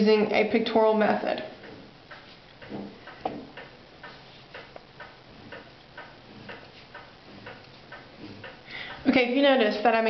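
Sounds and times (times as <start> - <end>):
faint regular ticking: 0.4 - 10.0.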